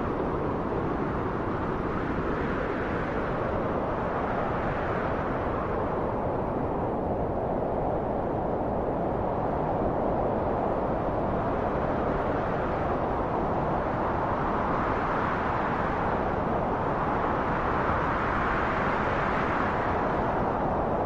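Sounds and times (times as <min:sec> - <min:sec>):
strong wind blowing: 0:00.0 - 0:21.0.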